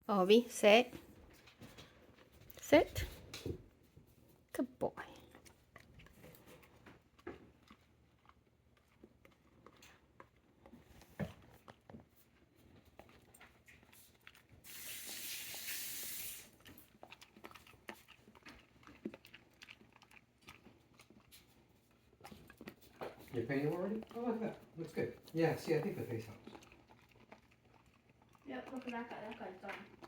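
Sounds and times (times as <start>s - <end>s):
dog chewing crunchy food: 1.2s - 30.0s.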